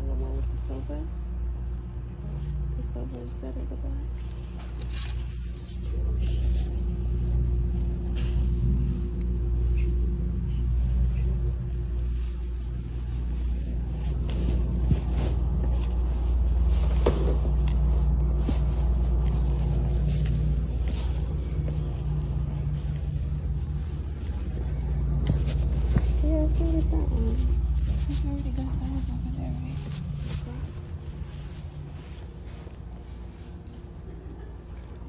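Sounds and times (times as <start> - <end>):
low rumble: 0.0 - 35.0.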